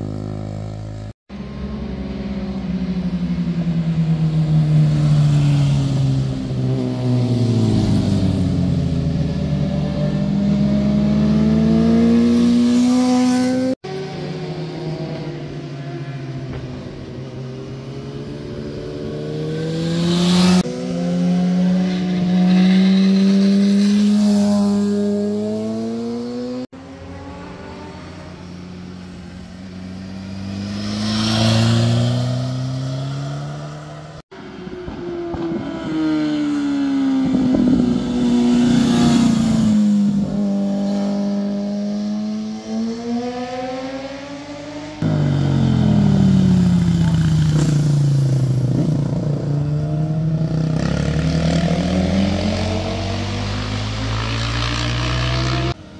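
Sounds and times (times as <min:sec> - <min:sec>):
motorcycle engines revving past: 0:00.0 - 0:55.9.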